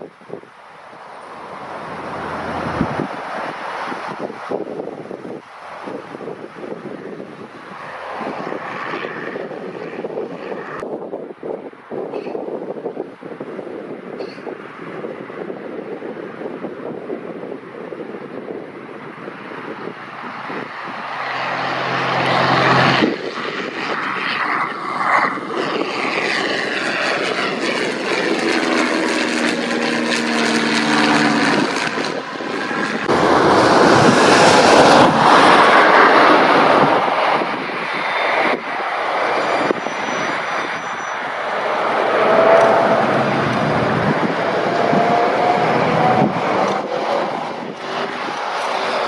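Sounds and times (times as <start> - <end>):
propeller plane engine: 0.0 - 49.0.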